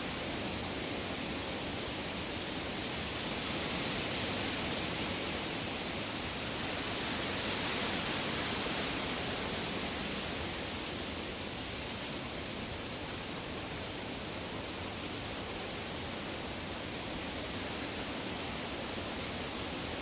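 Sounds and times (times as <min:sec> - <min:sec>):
woodland rushing hiss: 0:00.0 - 0:20.0.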